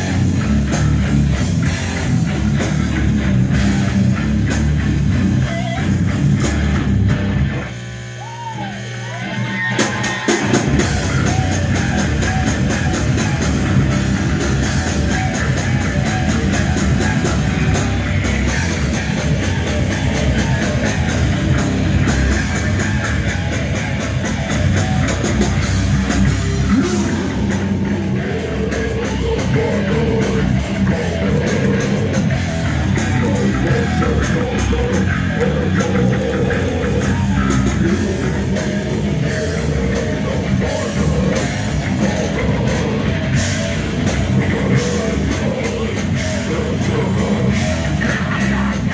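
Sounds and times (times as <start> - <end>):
heavy metal band playing: 0.0 - 48.9.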